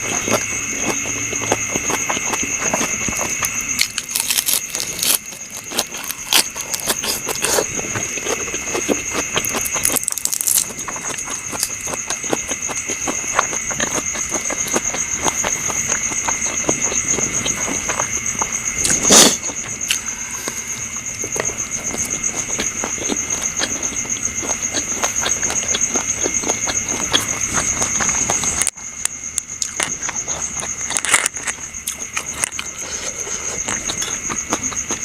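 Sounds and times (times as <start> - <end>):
chewing food: 0.0 - 35.0
night insects chirring: 0.0 - 35.0.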